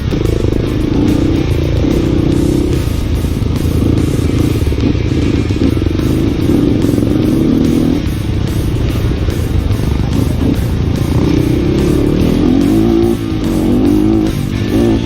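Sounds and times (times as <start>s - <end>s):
background music: 0.0s - 15.0s
motorcycle engine running: 0.0s - 15.0s.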